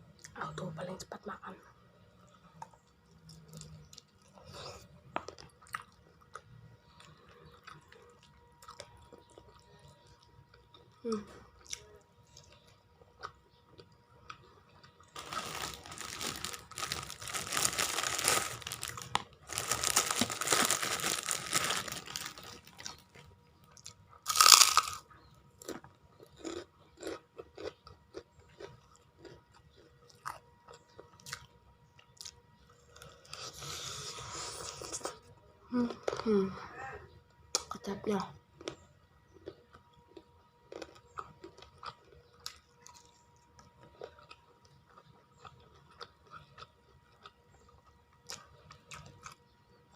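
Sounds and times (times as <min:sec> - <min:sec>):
person chewing crunchy food: 0:02.4 - 0:36.4, 0:38.6 - 0:49.8.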